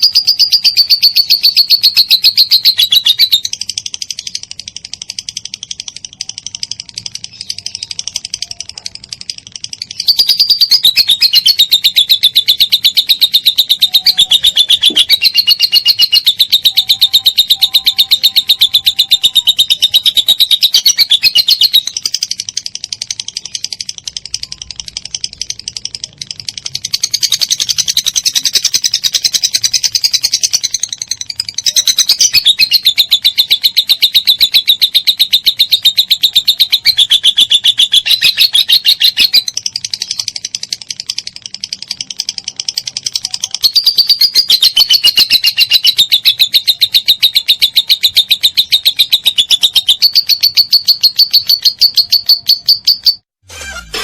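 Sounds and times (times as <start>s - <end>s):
lovebird chattering trill: 0.0s - 54.0s.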